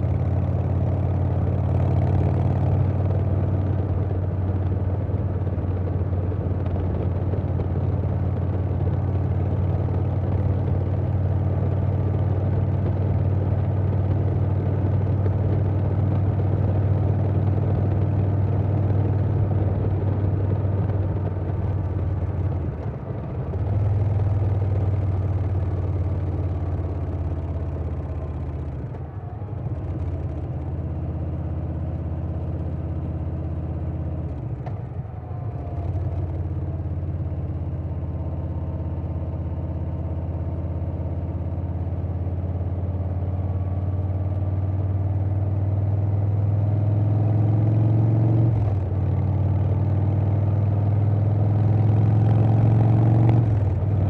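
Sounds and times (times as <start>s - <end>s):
motorcycle engine at road speed: 0.0s - 54.0s.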